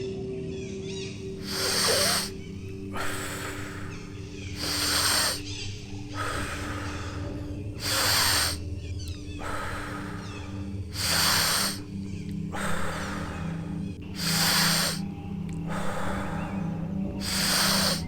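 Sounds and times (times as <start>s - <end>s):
low steady drone: 0.6s - 18.0s
deep forceful breathing: 1.2s - 18.0s.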